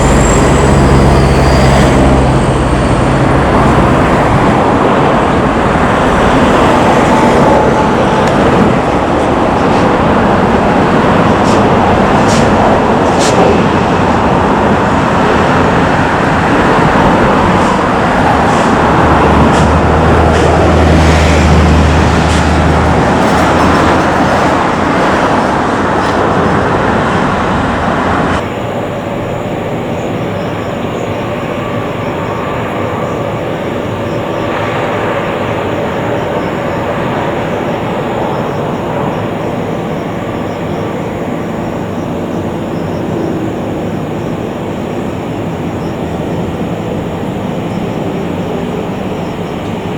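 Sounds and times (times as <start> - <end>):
jet airliner landing roar: 0.0 - 49.9
jet engine drone with whine: 0.0 - 49.9.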